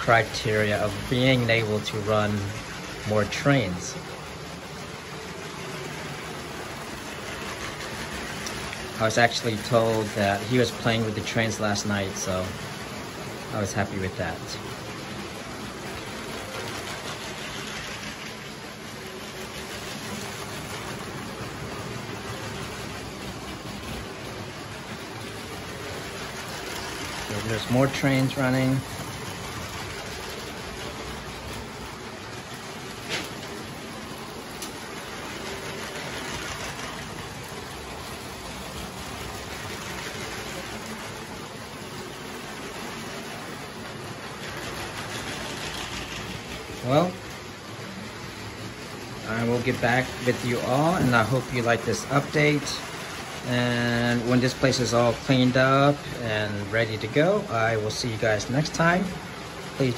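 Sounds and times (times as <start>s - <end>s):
toy train motors whirring: 0.0s - 59.9s.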